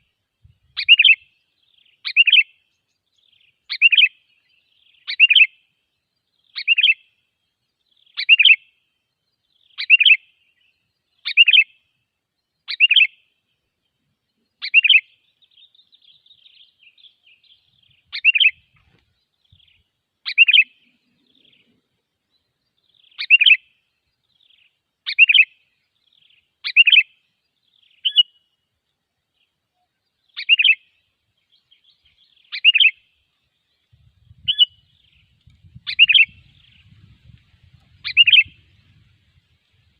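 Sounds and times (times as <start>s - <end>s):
soft bird twittering: 0.0s - 39.9s.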